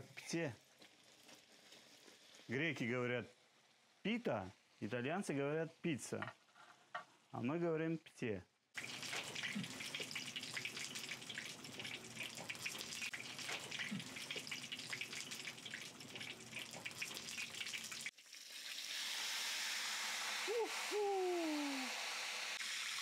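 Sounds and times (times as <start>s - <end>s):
food frying in hot oil: 0.0s - 4.8s, 8.8s - 23.0s.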